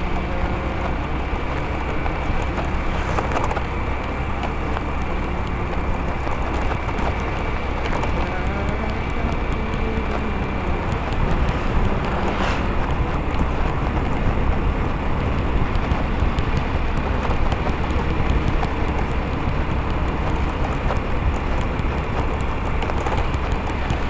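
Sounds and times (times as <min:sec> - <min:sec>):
motorcycle engine running: 0:00.0 - 0:24.0
wind rumble on microphone: 0:00.0 - 0:24.0.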